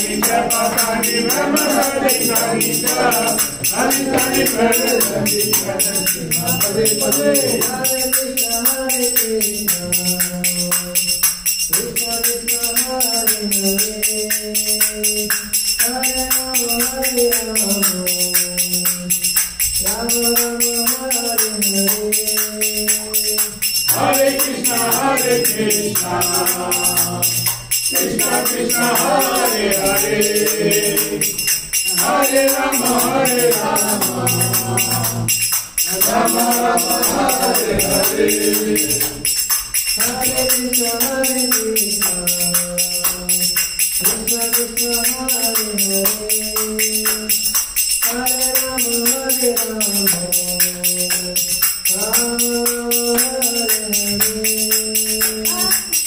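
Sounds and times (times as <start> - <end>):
lead voice singing: 0.0 - 11.1, 11.7 - 19.2, 19.8 - 56.0
group of voices singing: 0.0 - 56.0
jingling percussion: 0.0 - 56.0.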